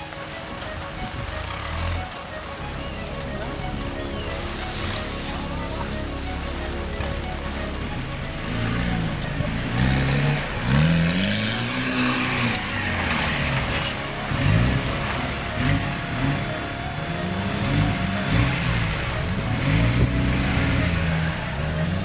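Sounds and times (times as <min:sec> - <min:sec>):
off-road vehicle engine revving: 0:01.0 - 0:22.0.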